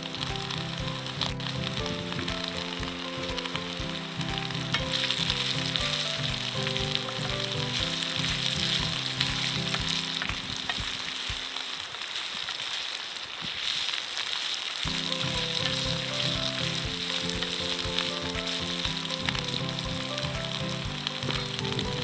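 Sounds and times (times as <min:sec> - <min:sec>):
soft background melody: 0:00.0 - 0:12.1, 0:14.9 - 0:22.0
food sizzling in frying pan: 0:00.0 - 0:22.0.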